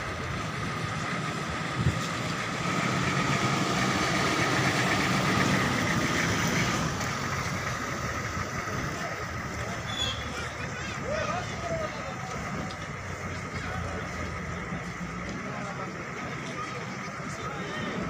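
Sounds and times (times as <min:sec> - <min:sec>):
diesel vehicles driving past: 0:00.0 - 0:18.0.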